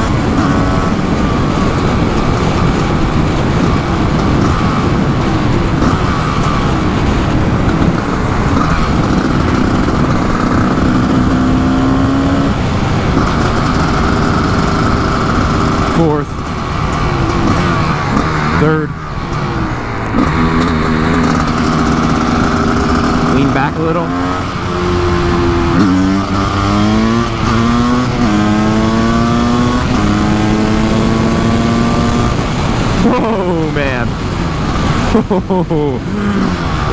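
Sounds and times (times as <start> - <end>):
two-stroke motorcycle engine under load: 0.0 - 36.9
wind rush on microphone: 0.0 - 36.9.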